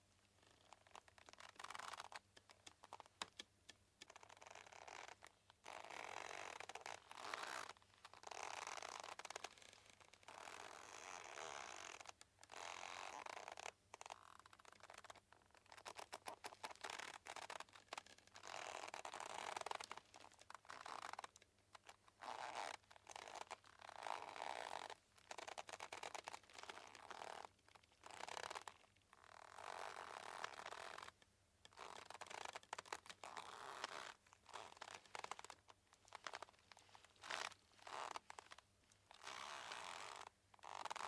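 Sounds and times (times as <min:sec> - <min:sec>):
rope creaking and straining: 0:00.5 - 0:41.0.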